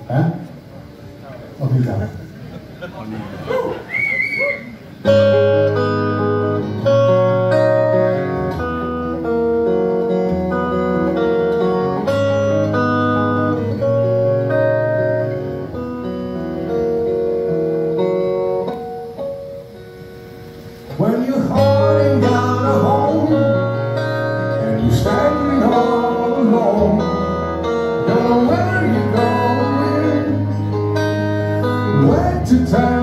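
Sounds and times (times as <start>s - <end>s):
electric guitar picked chords: 5.0s - 33.0s.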